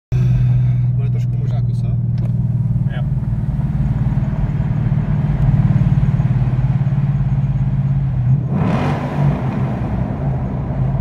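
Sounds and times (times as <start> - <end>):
car engine running: 0.1 - 11.0.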